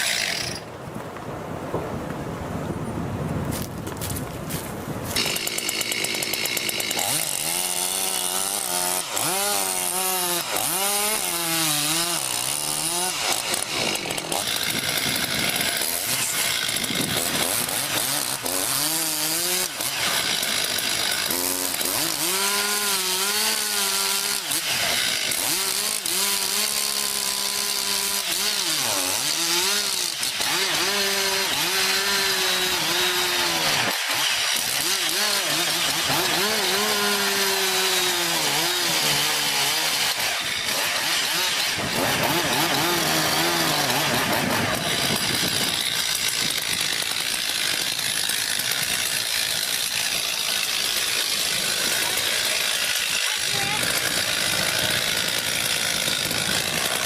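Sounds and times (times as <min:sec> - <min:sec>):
chainsaw cutting wood: 0:00.0 - 0:00.7, 0:03.5 - 0:57.0.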